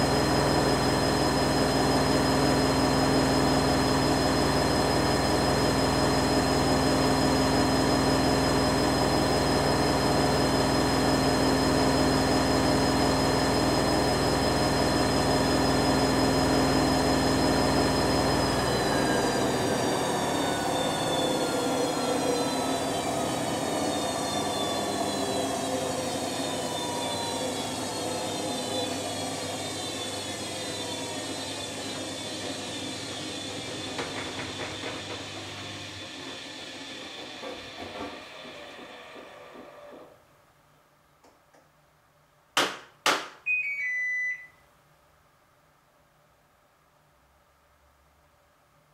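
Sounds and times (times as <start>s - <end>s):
washing machine drum spinning: 0.0s - 39.4s.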